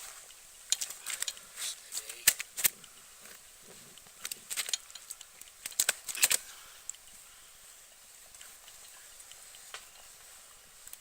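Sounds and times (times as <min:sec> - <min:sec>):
stray ticks: 0:00.2 - 0:11.0.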